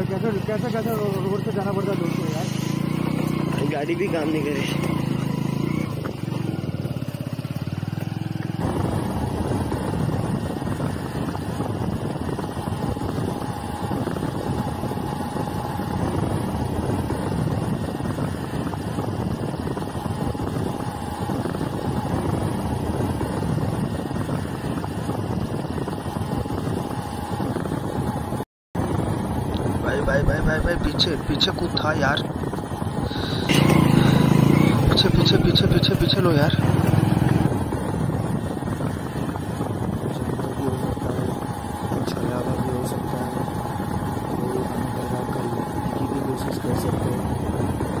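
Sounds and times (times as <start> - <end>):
motorcycle engine running: 0.0 - 48.0
wind rumbling on microphone: 0.0 - 48.0.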